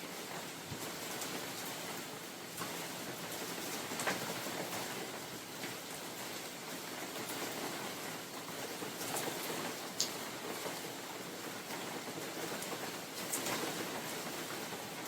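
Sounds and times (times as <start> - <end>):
steady rain in forest: 0.0 - 15.0.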